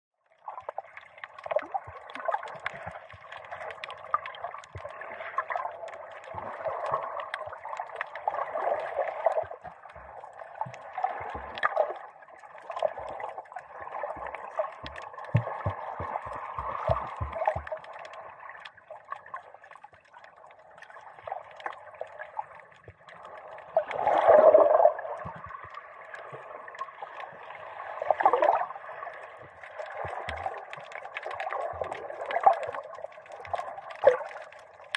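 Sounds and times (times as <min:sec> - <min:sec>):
muffled water sloshing and gurgling: 0:00.2 - 0:34.9
water surges: 0:00.3 - 0:34.9.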